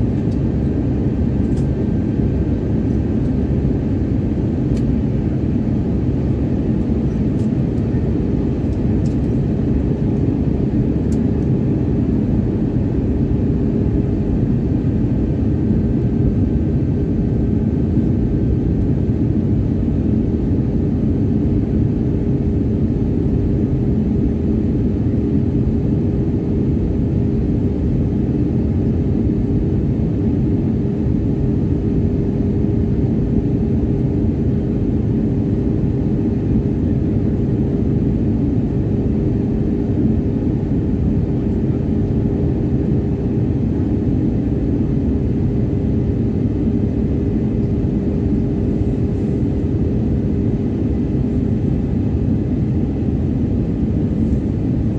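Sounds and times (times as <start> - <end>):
airliner engine and airflow rumble: 0.0 - 54.9
constant hum: 0.0 - 54.9.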